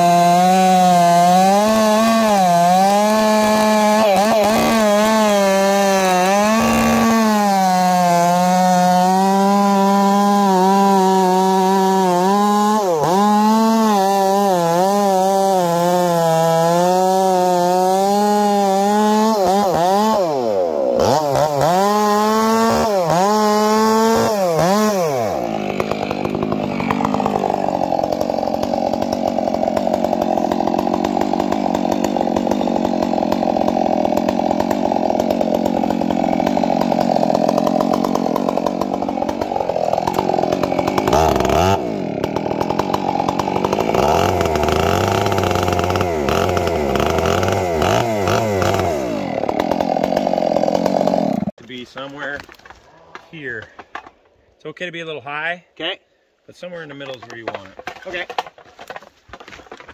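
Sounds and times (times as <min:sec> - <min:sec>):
chainsaw cutting wood: 0:00.0 - 0:54.3, 0:56.6 - 0:59.9.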